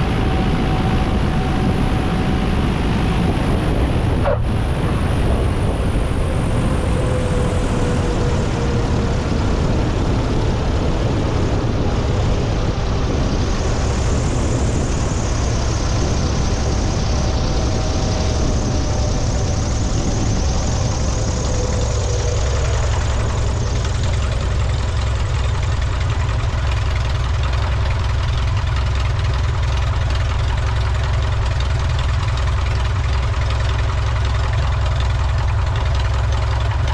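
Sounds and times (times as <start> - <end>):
light aircraft engine running: 0.0 - 36.9.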